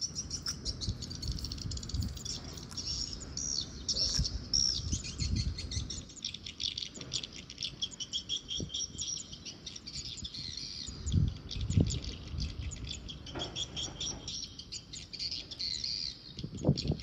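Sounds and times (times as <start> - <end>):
birds twittering: 0.0 - 17.0.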